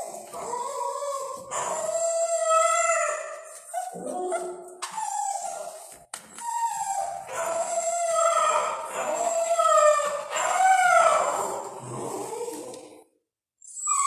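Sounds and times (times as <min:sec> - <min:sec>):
puppy howling and whining: 0:00.1 - 0:12.9, 0:13.6 - 0:14.0.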